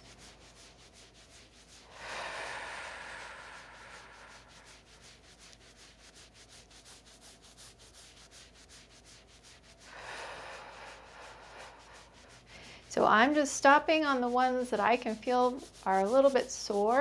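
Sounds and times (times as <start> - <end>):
fingertips rubbing on cotton: 0.0 - 17.0.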